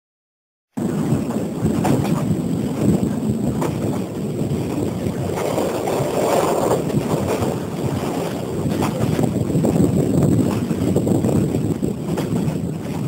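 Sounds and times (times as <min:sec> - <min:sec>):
train running gear rumble: 0:00.8 - 0:13.0
wind buffeting microphone: 0:00.8 - 0:13.0.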